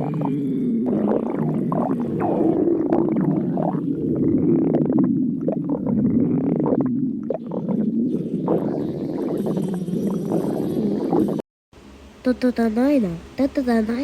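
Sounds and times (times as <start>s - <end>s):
stomach growling: 0.0s - 11.4s.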